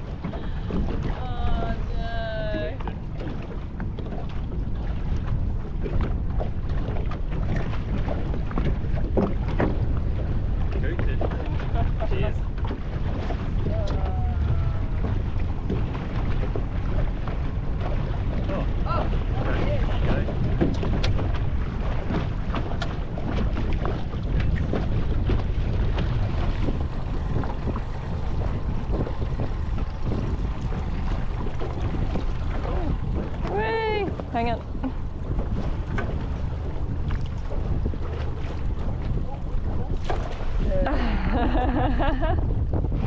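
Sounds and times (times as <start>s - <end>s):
water slapping against hull: 0.0s - 43.0s
wind buffeting microphone: 0.0s - 43.0s.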